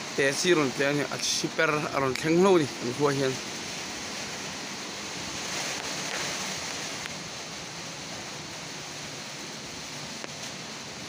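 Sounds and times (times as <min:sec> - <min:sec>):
storm wind and rain: 0:00.0 - 0:11.0.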